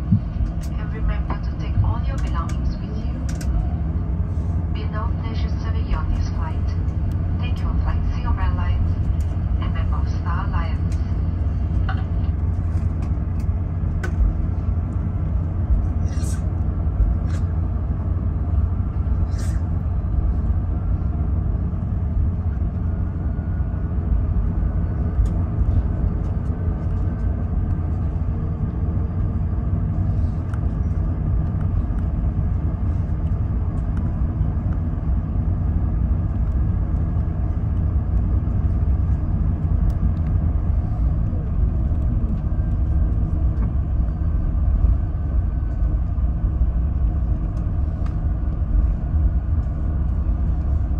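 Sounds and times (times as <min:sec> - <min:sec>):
low aircraft cabin rumble: 0:00.0 - 0:50.9.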